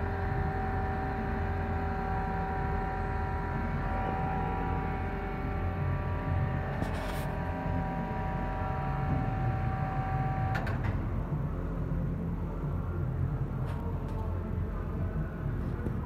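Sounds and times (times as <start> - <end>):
lathe humming and whining: 0.0 - 16.0.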